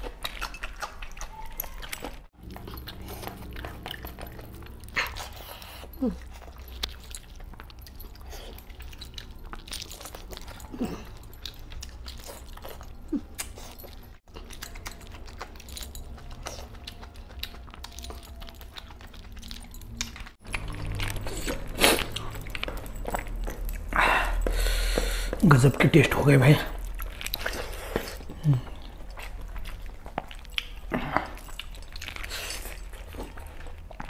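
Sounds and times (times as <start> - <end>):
chewing and lip-smacking: 0.0 - 34.0.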